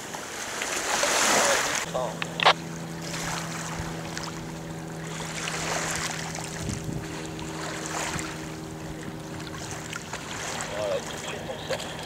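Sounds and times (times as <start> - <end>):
water noise: 0.0 - 12.0
wind: 0.0 - 12.0
boat motor idling: 1.6 - 12.0.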